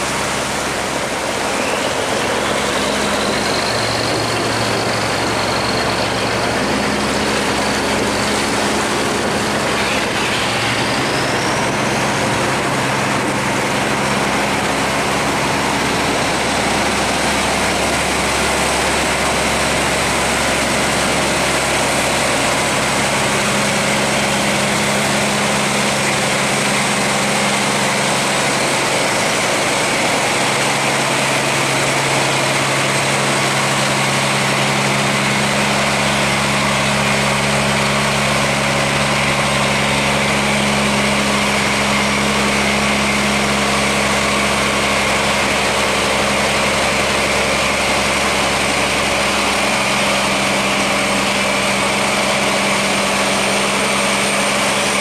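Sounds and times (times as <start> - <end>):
boat engine running: 0.0 - 55.0
water rushing through sluice gate: 0.0 - 55.0.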